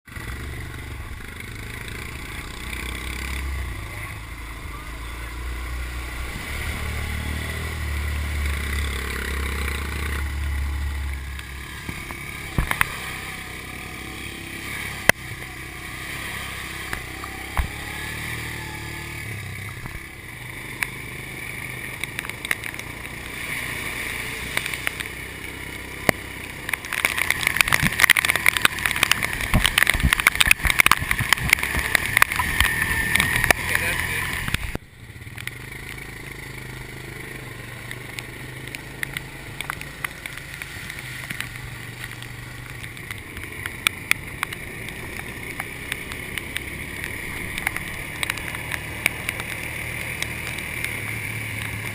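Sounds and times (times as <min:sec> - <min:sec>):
atv engine droning: 0:00.1 - 0:51.9
dense crackling noise: 0:00.1 - 0:51.9.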